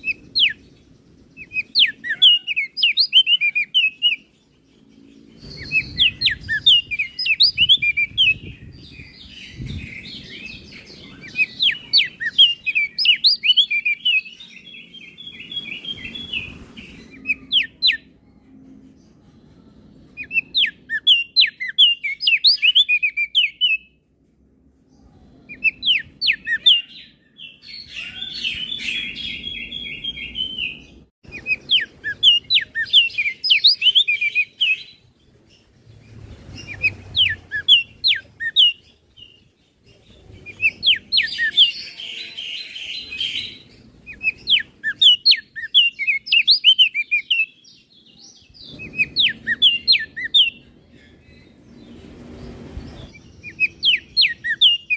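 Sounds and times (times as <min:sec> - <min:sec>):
bird singing rapid chirps: 0:00.0 - 0:19.2, 0:19.8 - 0:23.9, 0:25.0 - 0:54.9.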